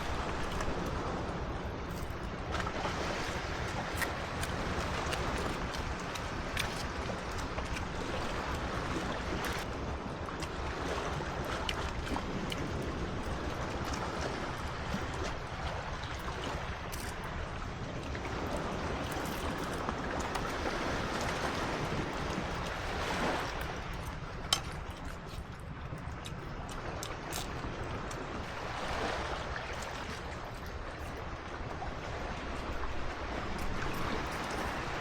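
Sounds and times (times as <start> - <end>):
ocean waves washing onto beach: 0.0 - 35.0.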